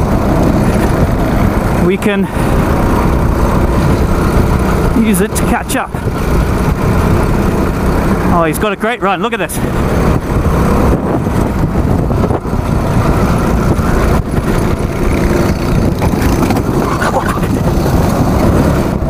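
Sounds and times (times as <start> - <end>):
go-kart engine running: 0.0 - 19.0
steady rushing noise: 0.0 - 19.0.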